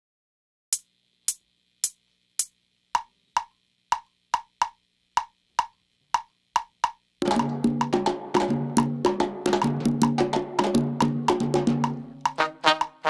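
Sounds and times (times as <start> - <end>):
sharp percussion clicks: 0.7 - 13.0.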